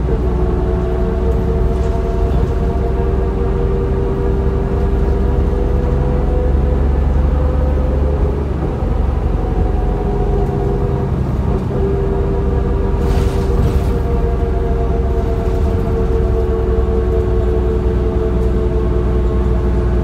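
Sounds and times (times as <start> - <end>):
bus diesel engine rumbling: 0.0 - 20.0.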